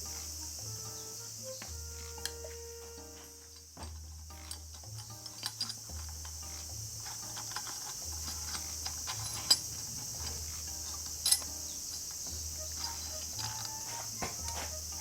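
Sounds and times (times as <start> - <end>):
background music with bass line: 0.0 - 15.0
hand tools clicking: 0.0 - 15.0.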